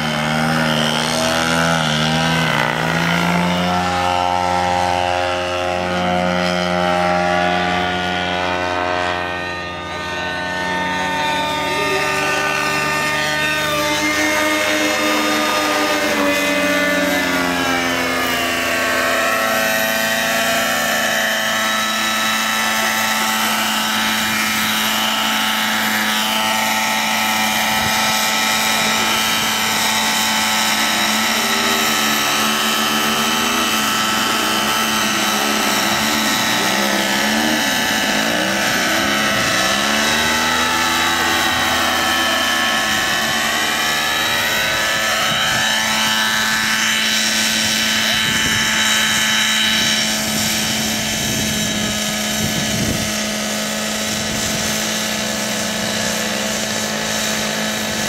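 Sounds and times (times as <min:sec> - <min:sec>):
model helicopter engine and rotor: 0:00.0 - 0:58.0
model plane engine: 0:00.0 - 0:58.0.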